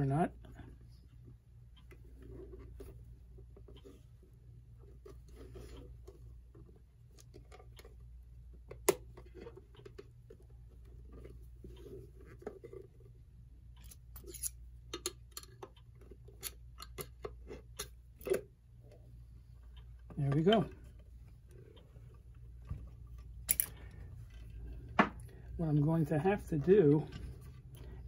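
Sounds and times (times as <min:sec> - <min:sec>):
clicks and scrapes of handling: 0:01.1 - 0:08.1, 0:08.7 - 0:25.6.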